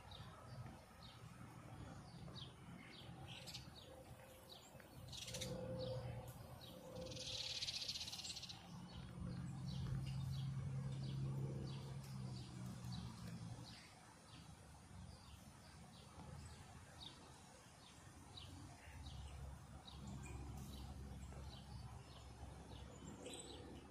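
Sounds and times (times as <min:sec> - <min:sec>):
low steady hum: 0:00.0 - 0:23.9
small birds chirping: 0:00.0 - 0:23.9.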